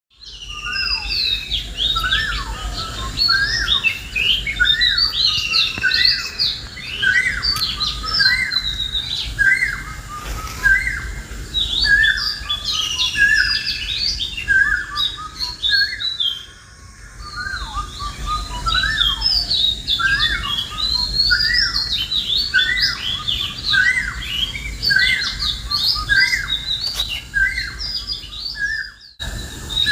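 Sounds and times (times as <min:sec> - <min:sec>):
birds chirping: 0:00.1 - 0:29.9.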